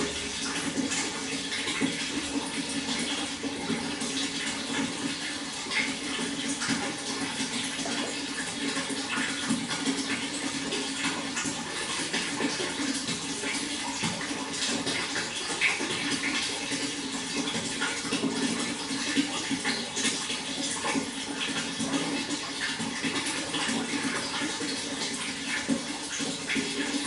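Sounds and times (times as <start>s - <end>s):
water flowing and splashing: 0.0s - 27.0s.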